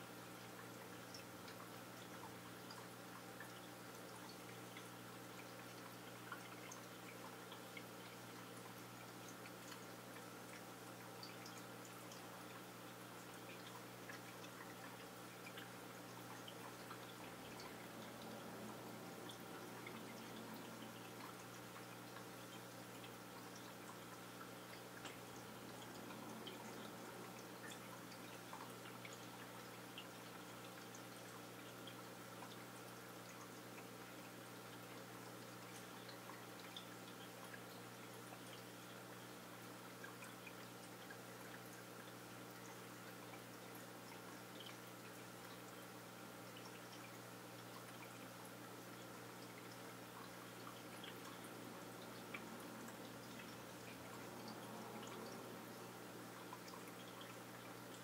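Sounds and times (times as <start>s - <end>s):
aquarium low hum: 0.0s - 58.0s
water ticks and drips: 0.0s - 58.0s.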